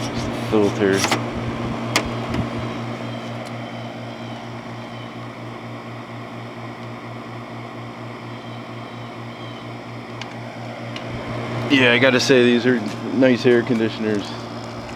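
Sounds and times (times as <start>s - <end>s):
air conditioner compressor hum: 0.0s - 14.9s
fan air rushing: 0.0s - 14.9s.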